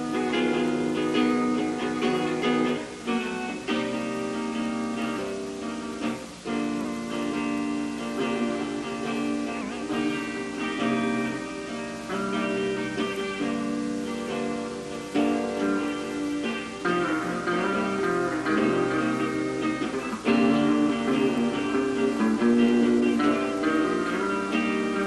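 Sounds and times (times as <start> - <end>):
live band with guitar chords: 0.0 - 25.0.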